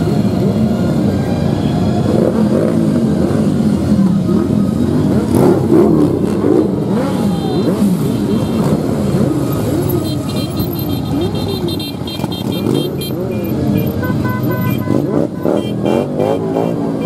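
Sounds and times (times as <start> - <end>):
motorcycles revving past: 2.0 - 17.0.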